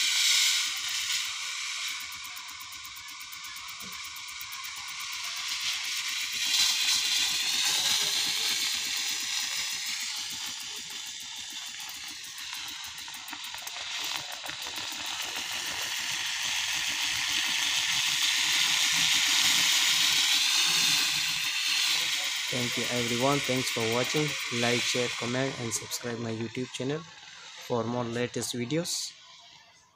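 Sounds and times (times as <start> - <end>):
steam iron hissing: 0.0 - 28.8.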